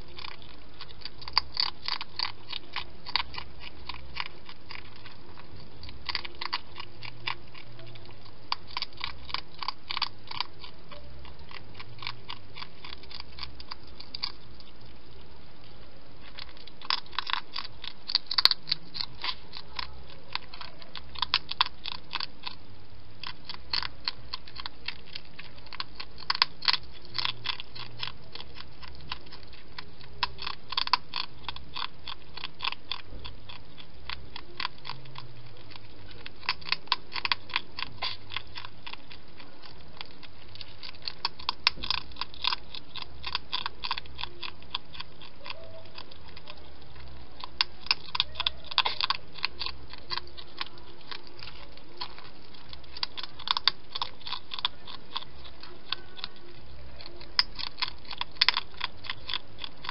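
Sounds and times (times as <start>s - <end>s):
hedgehog crunchy chewing: 0.0s - 59.9s.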